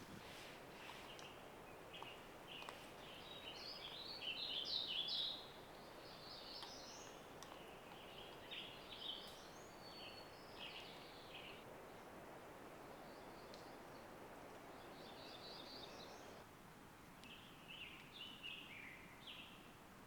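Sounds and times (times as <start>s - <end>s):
songbird chirping: 0.0s - 16.4s
faint background hiss: 0.0s - 20.0s.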